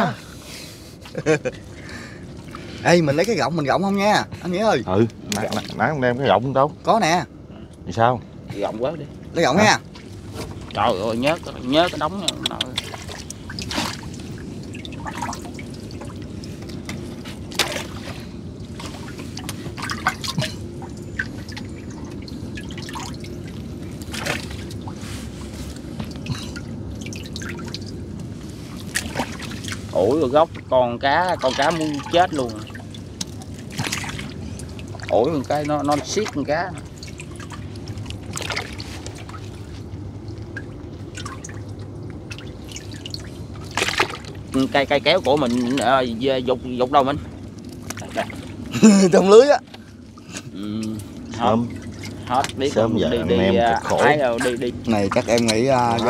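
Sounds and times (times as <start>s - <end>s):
steady low hum: 0.0s - 56.0s
water dripping and splashing: 5.0s - 5.9s, 9.0s - 52.8s, 53.7s - 56.0s.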